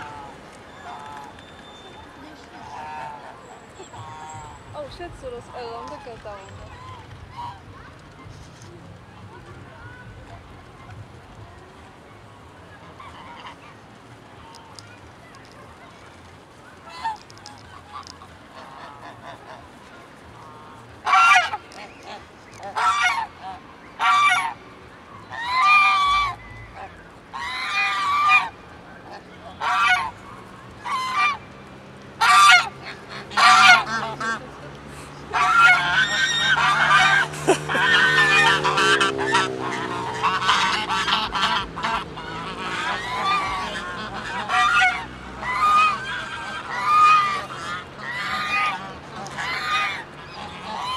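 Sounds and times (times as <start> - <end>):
geese honking: 0.0 - 7.8, 12.7 - 13.8, 16.8 - 24.6, 25.2 - 50.9.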